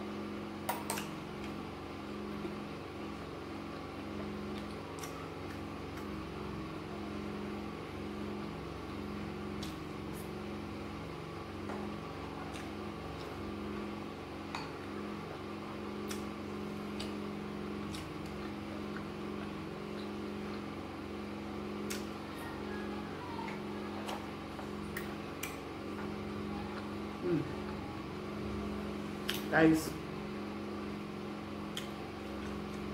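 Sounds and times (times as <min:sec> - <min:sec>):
machine hum: 0:00.0 - 0:32.9.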